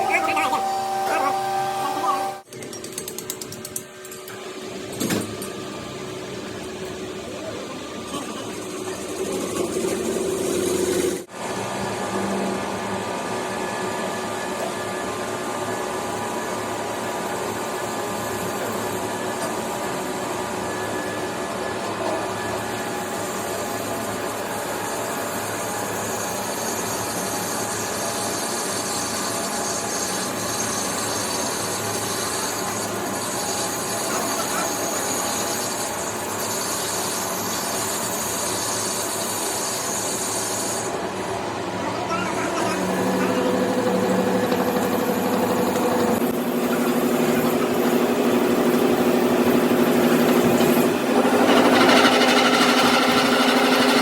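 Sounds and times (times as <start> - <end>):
metalworking machine noise: 0.0 - 54.0.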